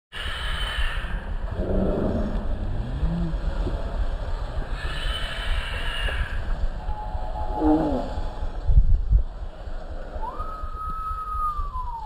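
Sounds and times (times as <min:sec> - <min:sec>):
wind buffeting microphone: 0:01.2 - 0:12.0.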